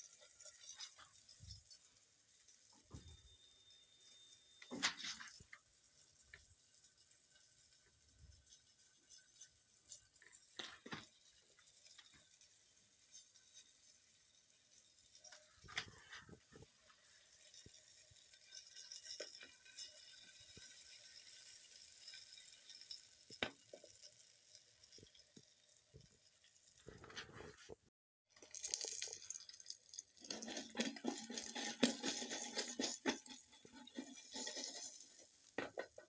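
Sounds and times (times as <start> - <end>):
food frying in hot oil: 0.0 - 27.2, 28.3 - 36.0.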